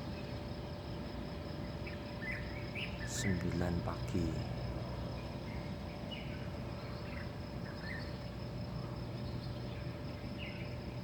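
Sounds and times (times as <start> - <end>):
crickets droning: 0.0 - 11.0.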